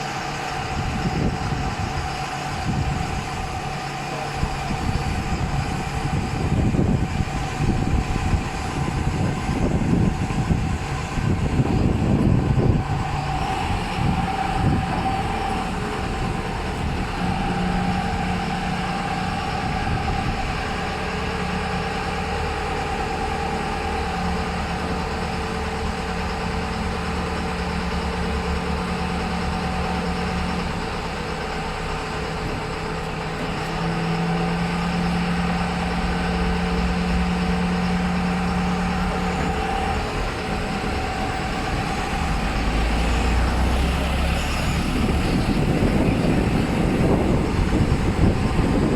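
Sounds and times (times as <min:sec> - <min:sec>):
concrete mixer engine running: 0:00.0 - 0:48.9.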